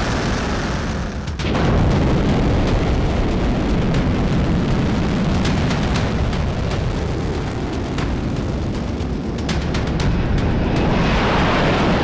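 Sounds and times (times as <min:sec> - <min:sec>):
sharp crackles: 0:00.0 - 0:10.9
rocket engines roaring: 0:00.0 - 0:12.0.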